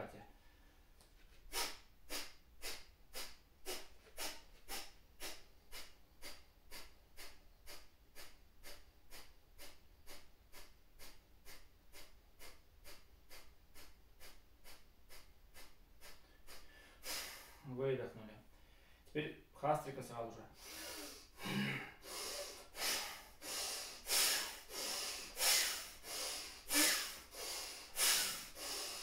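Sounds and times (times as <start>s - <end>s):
forceful nasal exhalations: 0.6s - 17.7s, 20.5s - 29.0s.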